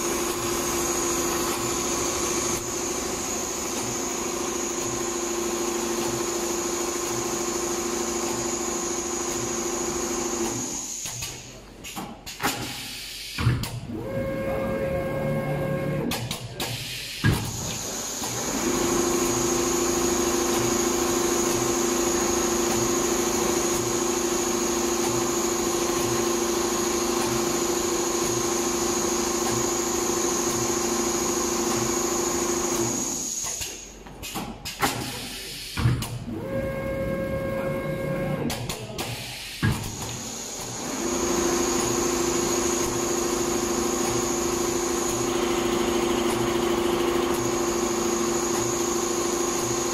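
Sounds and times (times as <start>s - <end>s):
sewing machine hum and whine: 0.0s - 11.6s, 13.6s - 16.7s, 17.4s - 34.0s, 36.1s - 49.9s.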